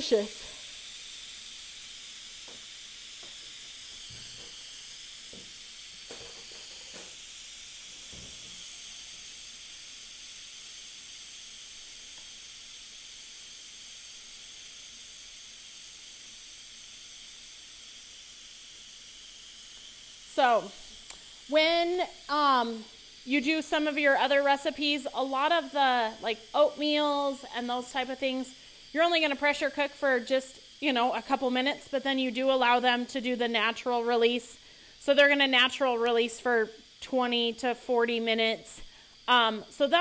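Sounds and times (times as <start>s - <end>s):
pressure cooker venting steam: 0.0s - 40.0s.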